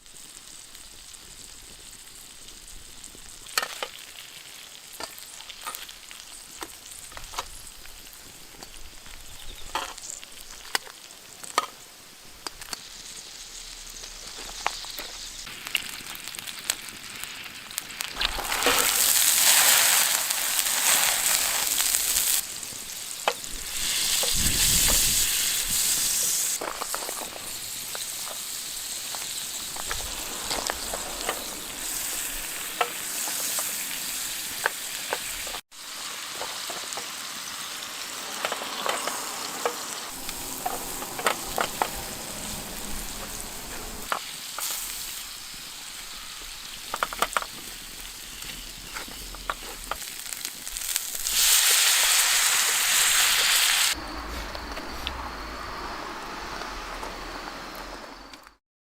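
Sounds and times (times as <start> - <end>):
food sizzling in a pan: 0.0 - 55.1.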